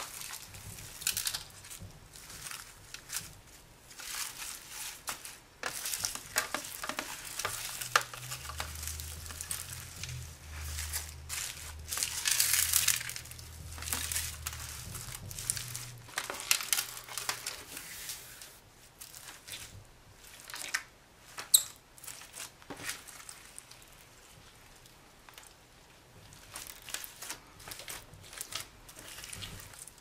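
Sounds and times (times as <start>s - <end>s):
slime squishing and crackling: 0.0s - 30.0s.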